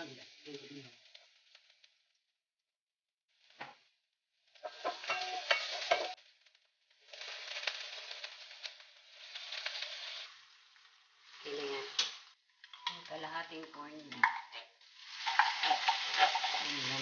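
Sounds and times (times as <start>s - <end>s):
food sizzling in frying pan: 0.0s - 2.3s, 3.3s - 17.0s.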